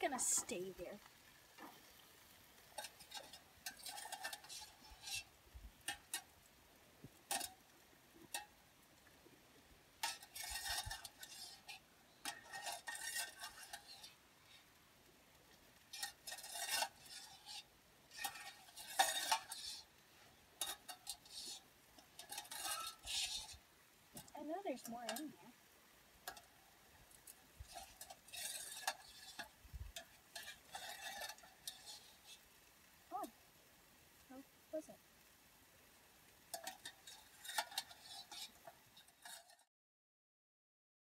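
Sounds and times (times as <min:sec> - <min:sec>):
clinks and scrapes in a metal pot: 0:01.6 - 0:09.2, 0:09.9 - 0:14.8, 0:15.5 - 0:33.2, 0:36.3 - 0:39.7.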